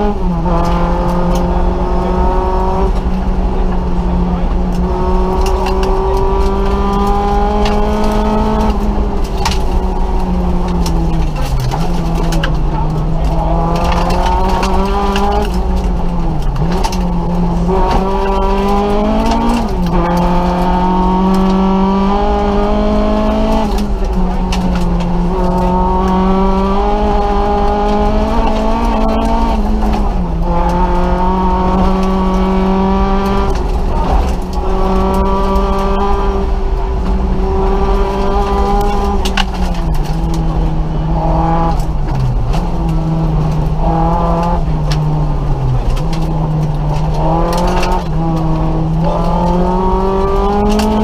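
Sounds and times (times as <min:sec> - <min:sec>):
car engine at high revs: 0:00.0 - 0:51.0
tyre and road noise: 0:00.0 - 0:51.0.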